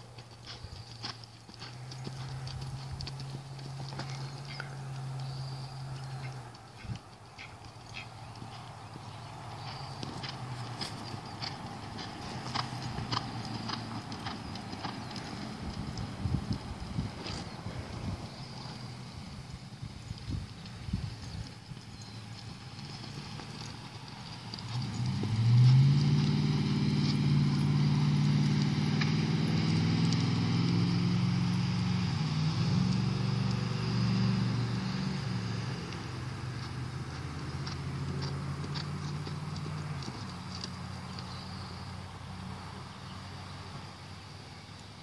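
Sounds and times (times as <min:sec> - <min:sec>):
horse hooves on dirt: 0:00.0 - 0:45.0
passing vehicle engine hum: 0:00.0 - 0:45.0.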